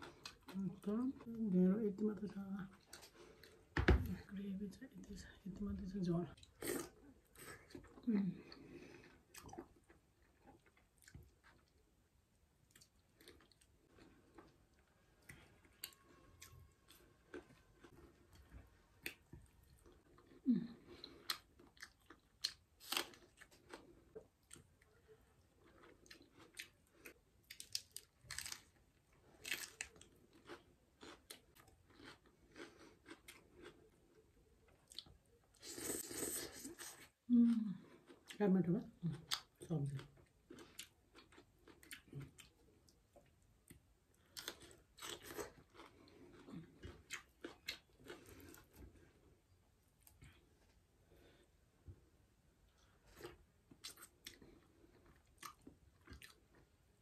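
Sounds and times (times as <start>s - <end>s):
person chewing food: 6.4s - 38.4s, 39.2s - 56.9s.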